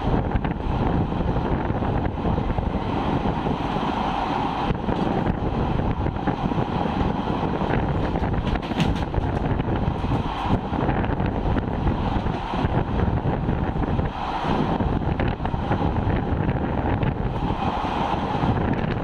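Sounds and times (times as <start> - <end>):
train wheels rumbling on rails: 0.0 - 19.0
wind rushing on microphone: 0.0 - 19.0.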